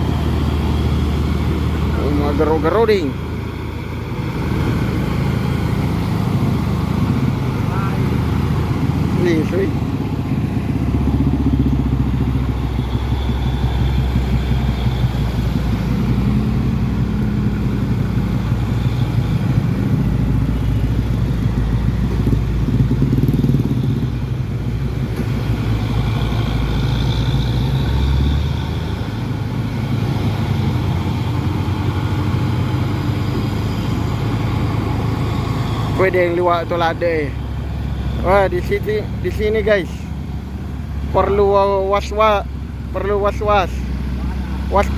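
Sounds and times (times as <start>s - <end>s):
vehicle engine droning: 0.0s - 44.9s.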